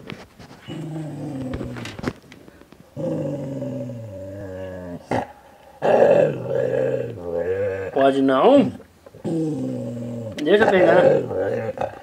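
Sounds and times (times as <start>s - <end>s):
dog growling: 0.7s - 2.0s, 3.0s - 12.0s.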